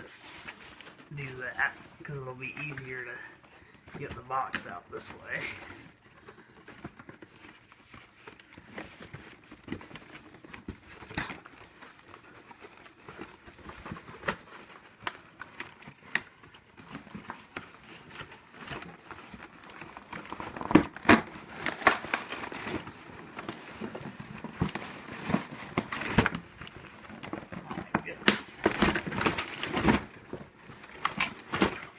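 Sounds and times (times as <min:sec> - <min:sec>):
cardboard packaging crinkling: 0:00.0 - 0:31.9.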